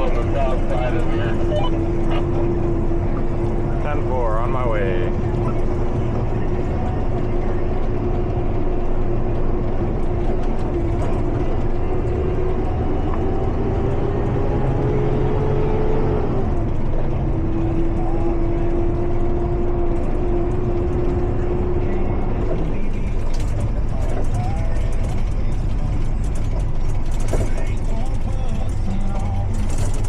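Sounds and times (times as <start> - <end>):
truck diesel engine drone: 0.0 - 30.0.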